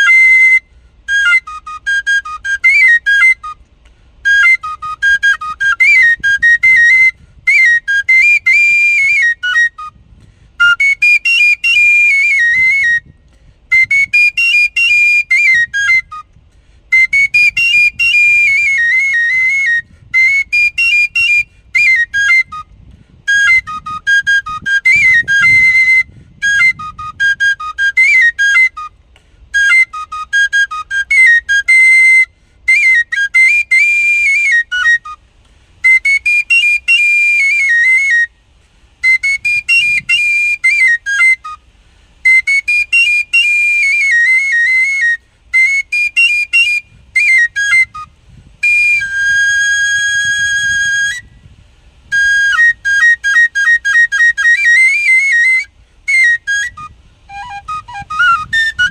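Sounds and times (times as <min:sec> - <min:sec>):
cane flute melody: 0:00.0 - 0:58.9.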